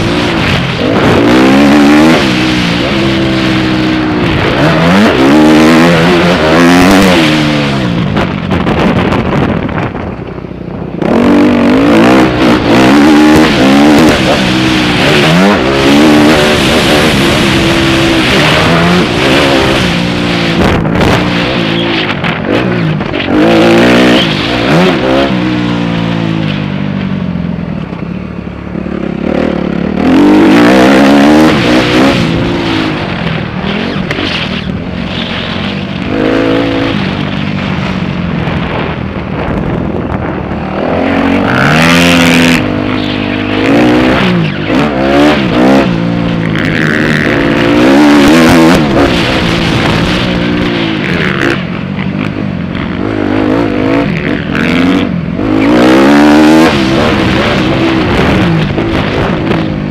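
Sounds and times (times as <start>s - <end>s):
dirt bike engine revving: 0.0s - 9.9s, 10.8s - 26.9s, 27.5s - 59.9s.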